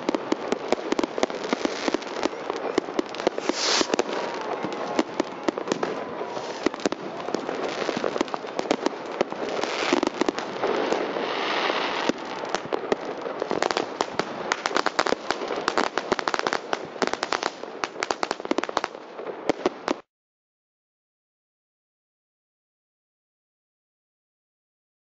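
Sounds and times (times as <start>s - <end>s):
fireworks bangs and crackles: 0.0s - 20.1s.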